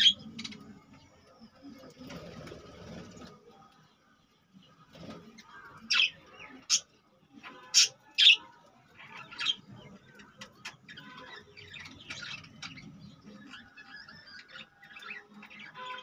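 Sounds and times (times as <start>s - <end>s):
soft bird chatter: 0.0s - 16.0s.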